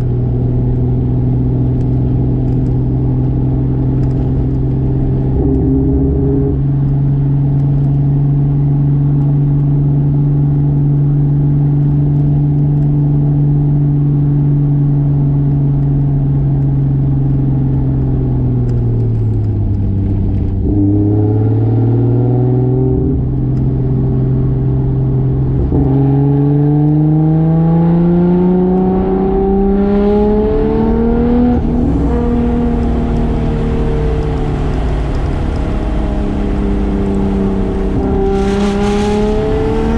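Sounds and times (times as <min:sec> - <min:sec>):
car engine running: 0:00.0 - 0:27.0, 0:28.6 - 0:39.9.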